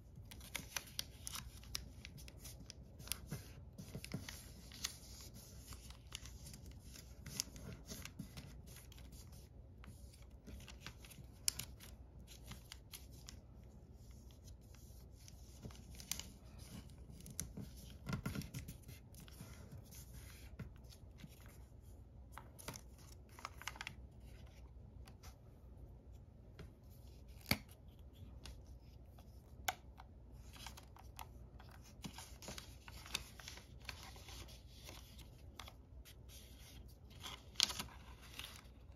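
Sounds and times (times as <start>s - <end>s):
paper rustling and creasing: 0.1s - 25.4s, 26.7s - 38.9s.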